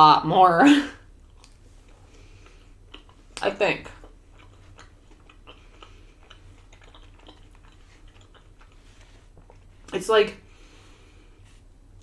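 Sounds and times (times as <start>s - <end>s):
faint low hum: 0.0s - 12.0s
person chewing food: 1.2s - 12.0s.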